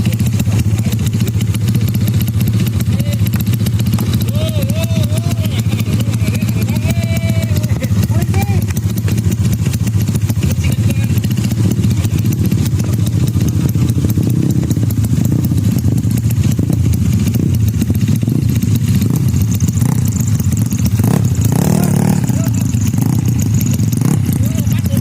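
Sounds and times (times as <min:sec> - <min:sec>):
scooter engine idling: 0:00.0 - 0:25.0.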